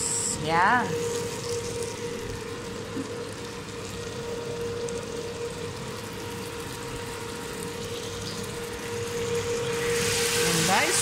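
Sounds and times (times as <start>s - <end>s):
sauce sizzling in a pot: 0.0s - 11.0s
steady hum: 0.0s - 11.0s.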